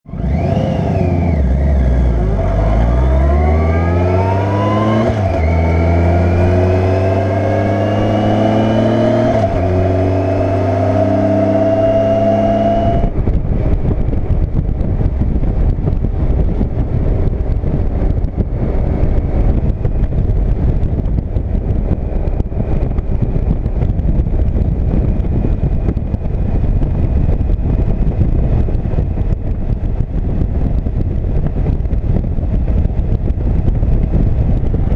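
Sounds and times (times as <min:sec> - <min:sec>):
motorcycle engine accelerating: 0:00.0 - 0:34.9
wind rush: 0:00.1 - 0:34.9.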